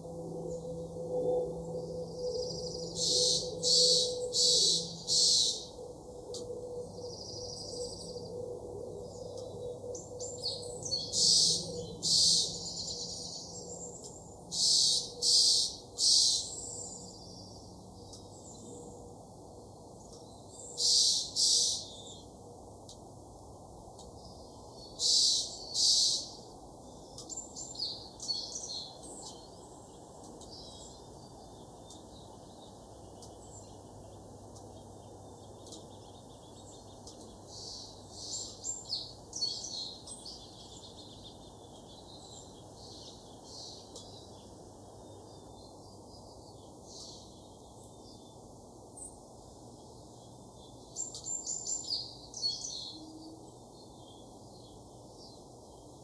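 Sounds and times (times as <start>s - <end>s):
songbird calls: 0.0s - 19.0s, 19.6s - 22.4s, 24.0s - 56.0s.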